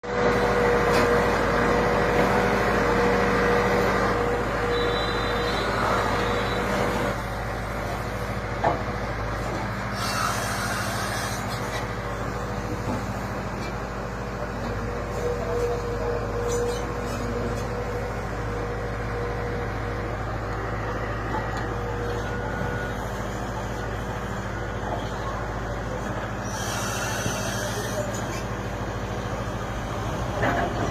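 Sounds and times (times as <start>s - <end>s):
diesel engine under load: 0.0s - 30.9s.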